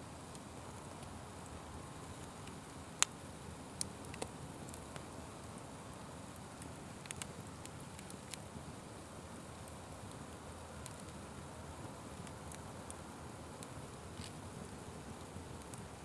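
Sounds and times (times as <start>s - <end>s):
fire crackling and popping: 0.2s - 16.0s.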